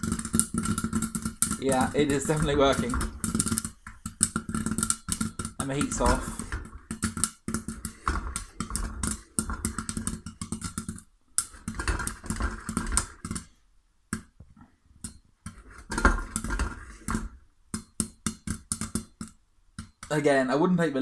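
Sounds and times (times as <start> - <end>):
popcorn popping in pot: 0.0 - 14.4, 15.0 - 20.4.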